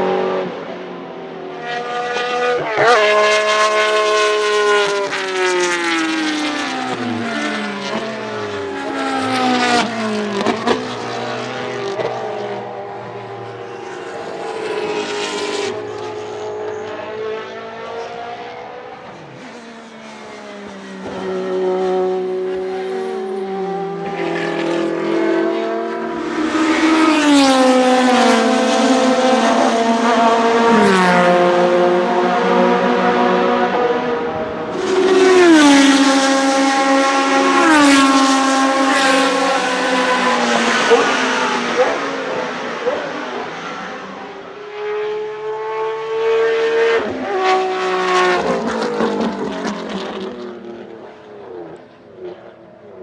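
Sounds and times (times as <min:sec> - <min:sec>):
racing car engines: 0:00.0 - 0:53.0.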